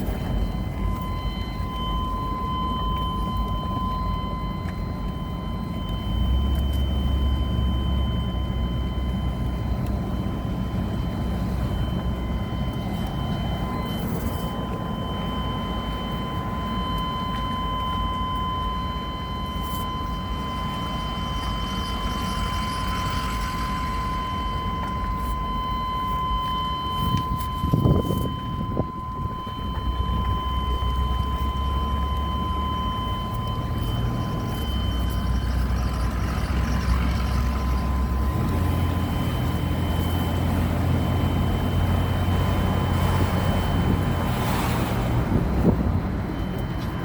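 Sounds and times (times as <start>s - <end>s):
pickup truck engine and road noise: 0.0s - 47.0s
warning buzzer high tone: 0.0s - 47.0s.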